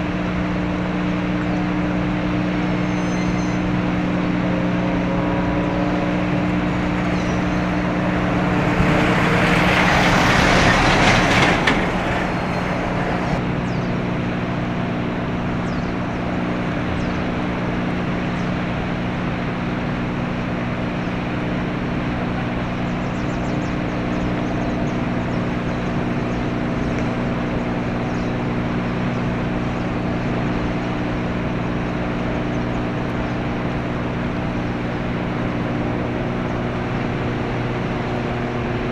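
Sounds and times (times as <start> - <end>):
rush of noise: 0.0 - 38.9
ship diesel engine drone: 0.0 - 38.9.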